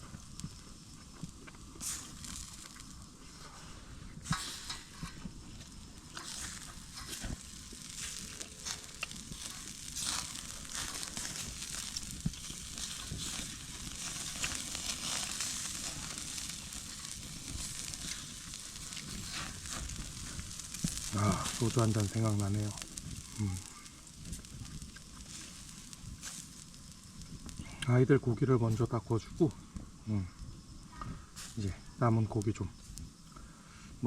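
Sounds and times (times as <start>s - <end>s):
meat sizzling on a grill: 0.0s - 34.0s
wood fire popping and crackling: 0.0s - 34.0s.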